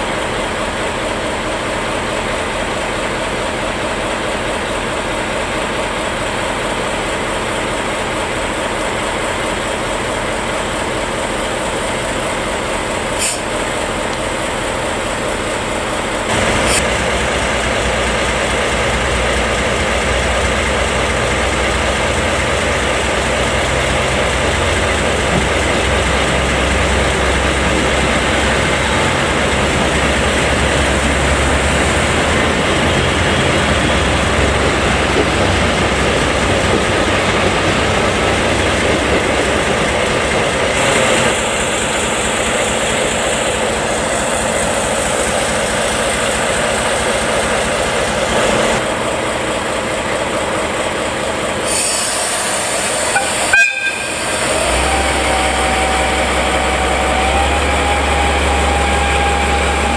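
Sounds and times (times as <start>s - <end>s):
diesel locomotive engine idling: 0.0s - 59.9s
diesel railcar running: 0.0s - 59.9s.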